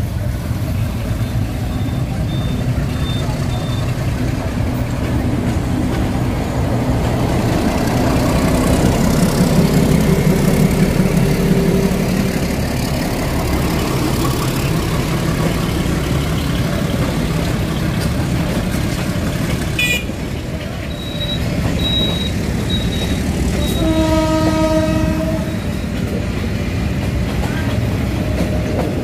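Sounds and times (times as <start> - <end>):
heavy engine running: 0.0 - 29.0.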